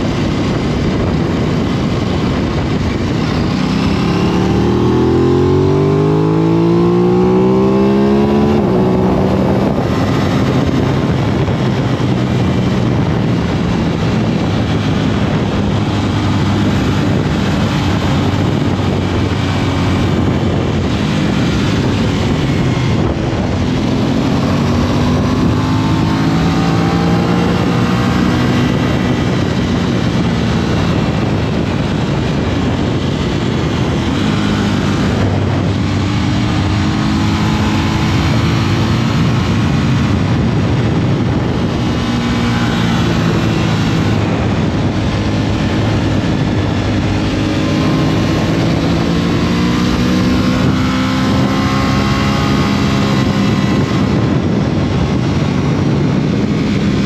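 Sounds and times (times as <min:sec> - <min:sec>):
motorcycle engine accelerating: 0:00.0 - 0:57.0
wind rushing: 0:00.0 - 0:57.0.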